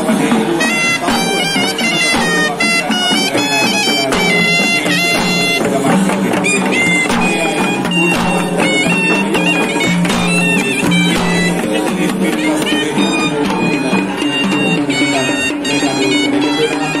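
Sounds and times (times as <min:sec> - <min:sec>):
drum strokes: 0:00.0 - 0:17.0
shrill reed pipe melody: 0:00.0 - 0:17.0.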